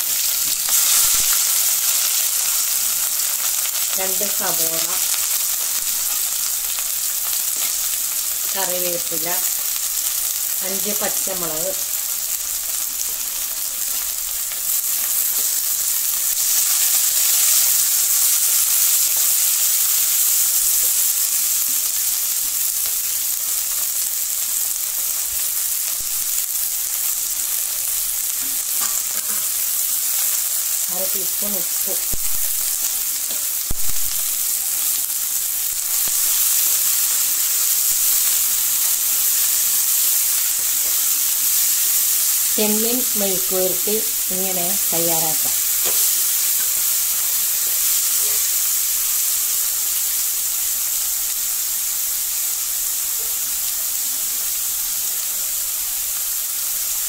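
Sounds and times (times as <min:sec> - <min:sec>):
vegetables sizzling in a pot: 0:00.0 - 0:57.0.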